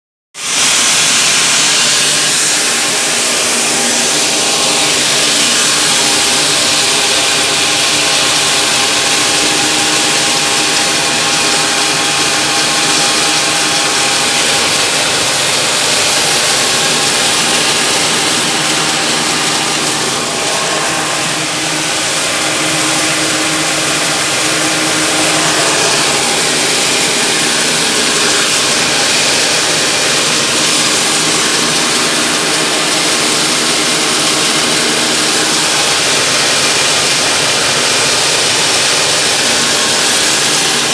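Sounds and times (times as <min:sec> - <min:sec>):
milling machine whirring: 0:00.4 - 0:40.9.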